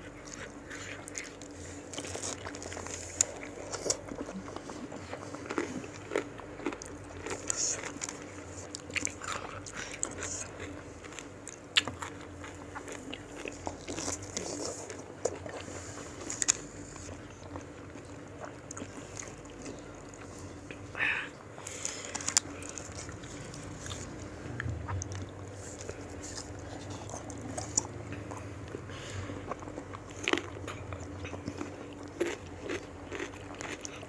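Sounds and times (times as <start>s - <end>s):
crunching fruit: 0.0s - 20.8s, 21.6s - 34.0s
chewing: 0.0s - 20.9s, 21.6s - 34.0s.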